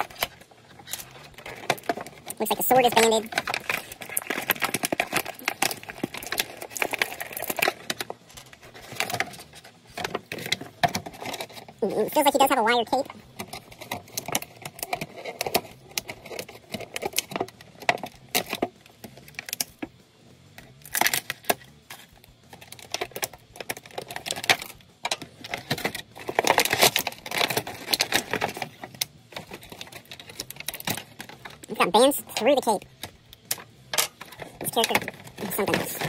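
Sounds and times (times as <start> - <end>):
plastic packaging crinkling: 0.0 - 19.7, 20.8 - 36.0.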